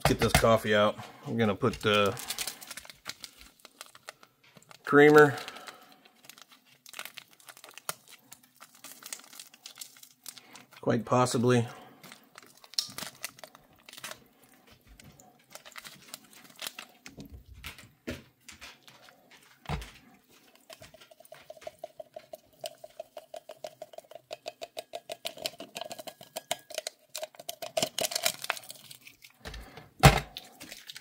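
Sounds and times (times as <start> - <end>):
rhythmic shaking of packet: 0.4 - 17.8, 18.7 - 29.5.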